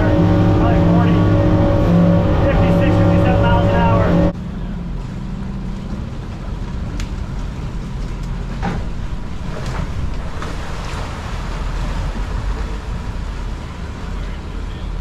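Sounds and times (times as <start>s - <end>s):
outboard engine drone: 0.0s - 15.0s
water noise: 0.0s - 15.0s
wind: 0.0s - 15.0s.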